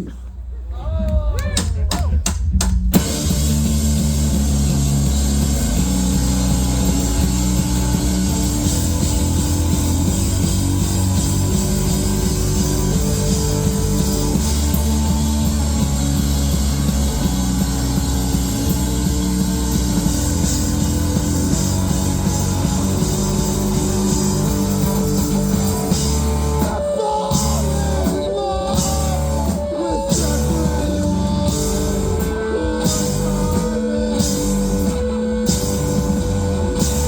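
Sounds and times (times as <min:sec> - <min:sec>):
drums: 0:00.0 - 0:37.0
bass guitar: 0:00.7 - 0:37.0
electric guitar chords: 0:03.0 - 0:37.0.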